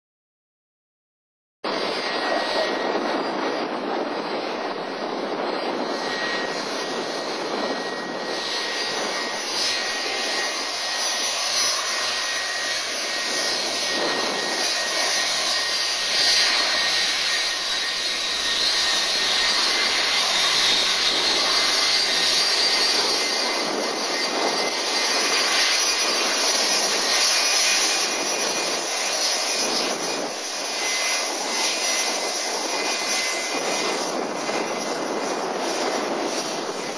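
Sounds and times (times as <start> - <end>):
jet engines rushing and whining: 1.6 - 36.9.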